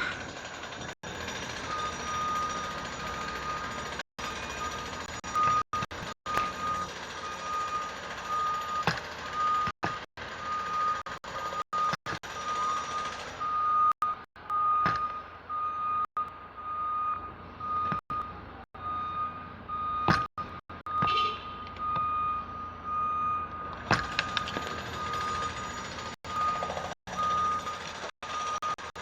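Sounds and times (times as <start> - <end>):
urban background hum: 0.0 - 29.0
reversing alarm beeping: 1.0 - 29.0.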